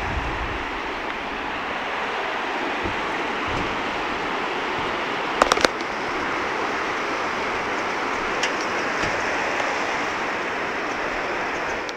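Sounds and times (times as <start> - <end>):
steady rushing outdoor noise: 0.0 - 11.9.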